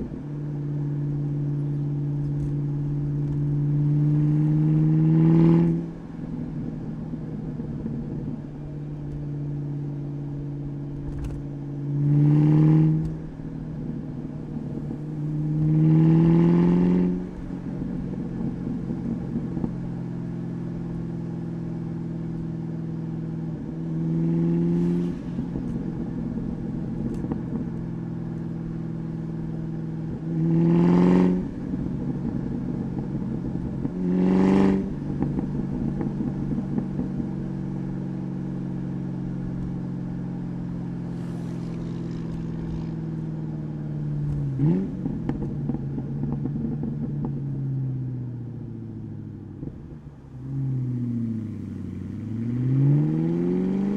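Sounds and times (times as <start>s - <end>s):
car engine cruising and revving: 0.0s - 53.9s.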